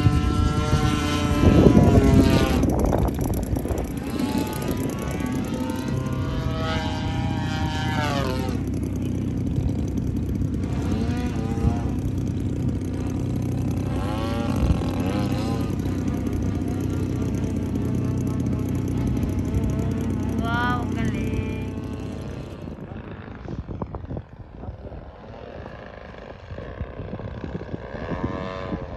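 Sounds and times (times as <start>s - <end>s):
model airplane engine passing: 0.0s - 28.9s
steady low rumble: 0.0s - 28.9s.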